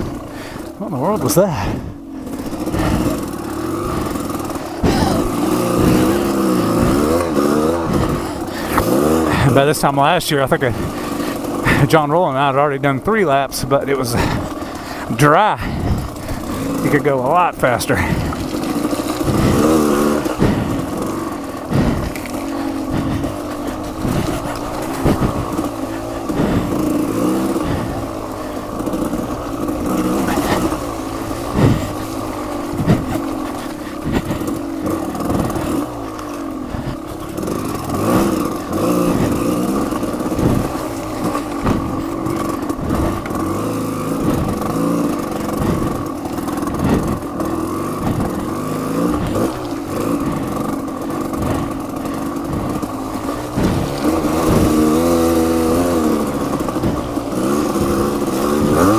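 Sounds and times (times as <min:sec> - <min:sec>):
knocks and rattles over rough ground: 0:00.0 - 0:58.9
off-road vehicle engine revving: 0:00.0 - 0:58.9.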